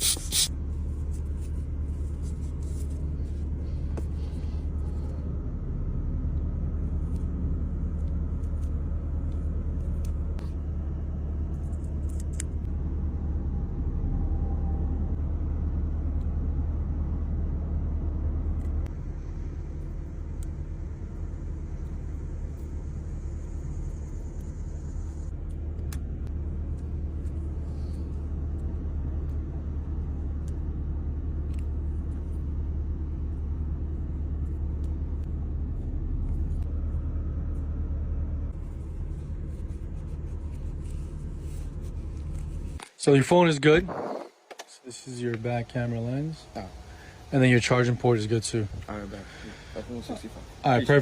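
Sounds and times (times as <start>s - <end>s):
low engine rumble: 0.0s - 51.0s.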